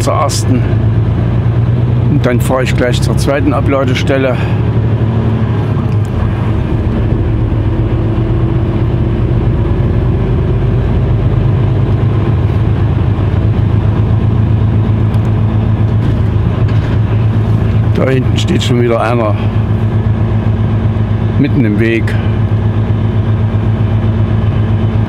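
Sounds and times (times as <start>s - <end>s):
truck diesel engine drone: 0.0s - 25.0s.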